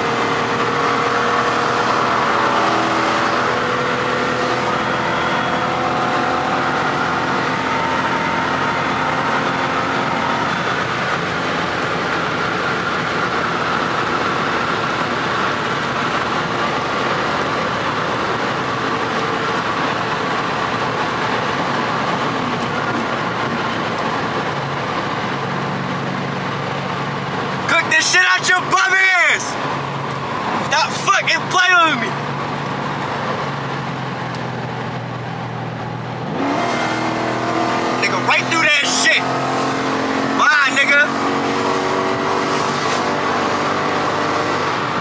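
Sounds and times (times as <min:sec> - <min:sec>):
car engine running: 0:00.0 - 0:45.0.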